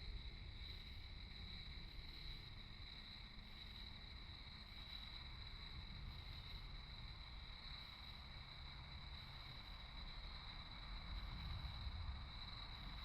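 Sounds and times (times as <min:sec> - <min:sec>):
crickets and katydids trilling: 0:00.0 - 0:13.0.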